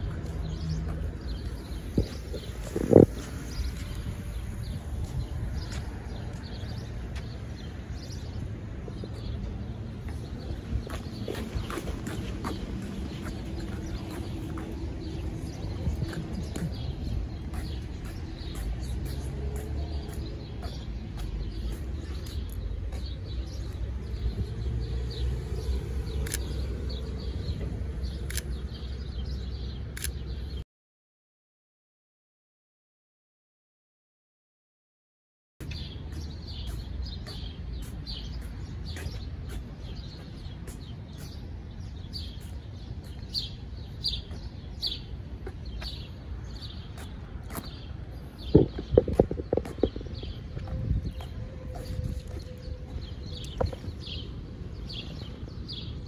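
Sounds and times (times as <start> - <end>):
small birds chirping: 0.0 - 30.6, 35.6 - 56.0.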